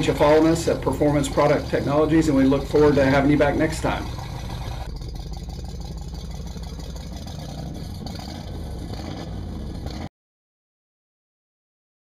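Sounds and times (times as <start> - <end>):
boat engine deep rumble: 0.0 - 10.1.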